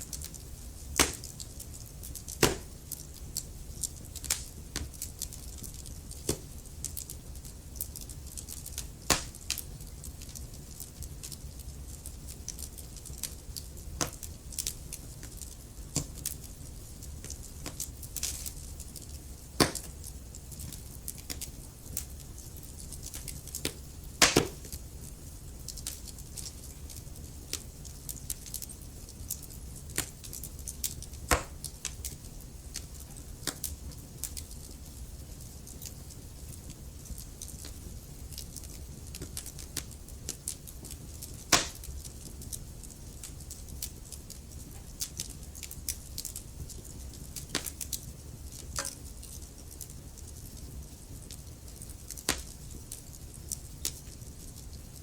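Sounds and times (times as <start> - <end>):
loud fire pops: 0.0 - 24.8, 25.6 - 36.5, 37.1 - 55.0
low rumble of flames: 0.0 - 55.0
wood fire crackling: 0.0 - 55.0.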